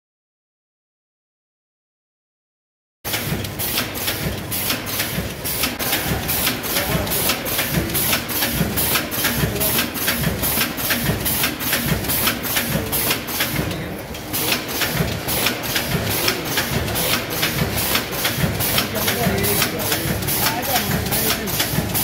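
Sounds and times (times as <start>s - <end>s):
packaging machine clatter with hiss: 3.1s - 22.0s.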